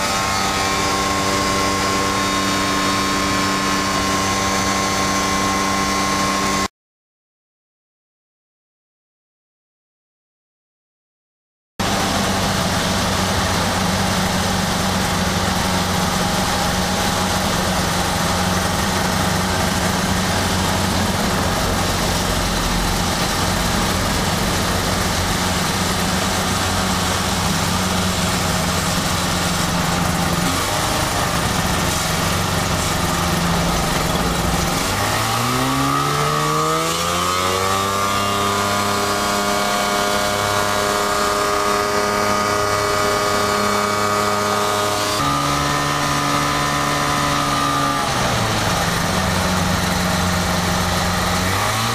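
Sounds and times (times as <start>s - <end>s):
light aircraft engine and propeller: 0.0s - 6.7s, 11.8s - 51.9s.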